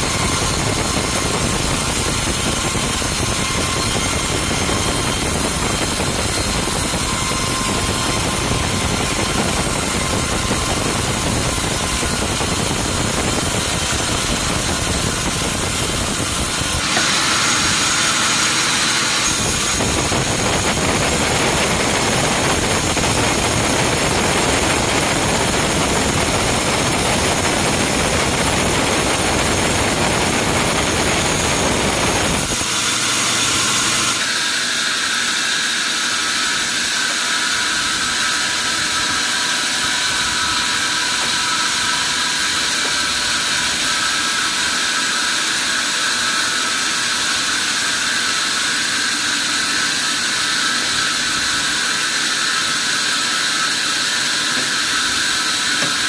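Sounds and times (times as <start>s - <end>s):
sawmill machinery hissing: 0.0s - 56.0s.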